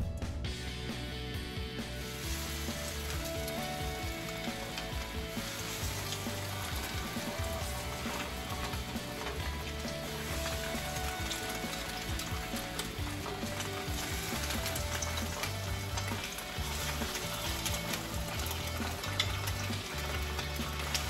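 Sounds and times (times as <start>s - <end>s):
food sizzling in hot oil: 2.0s - 21.0s.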